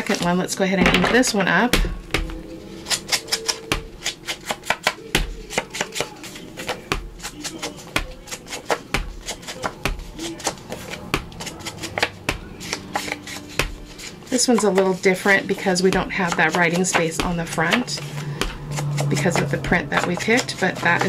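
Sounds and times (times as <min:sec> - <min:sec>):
foam tool tapping paper: 0:01.7 - 0:21.0.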